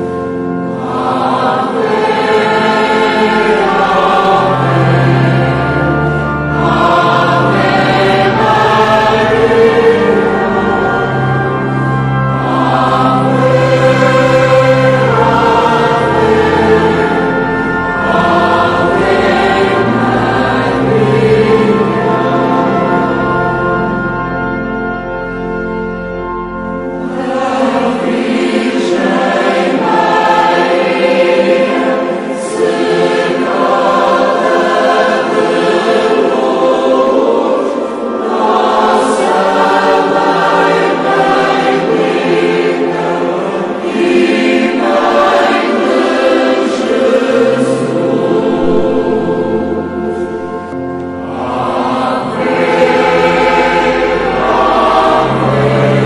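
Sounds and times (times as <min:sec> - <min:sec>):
choir singing a slow hymn: 0:00.0 - 0:56.0.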